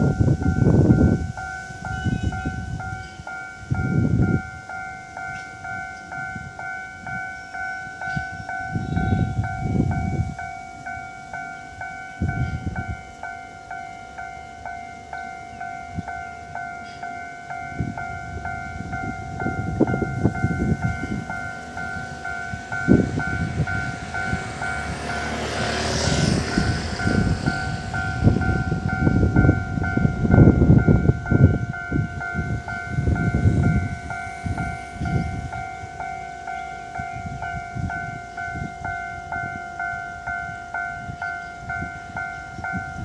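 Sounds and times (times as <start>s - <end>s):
level crossing warning bell: 0.0s - 43.0s.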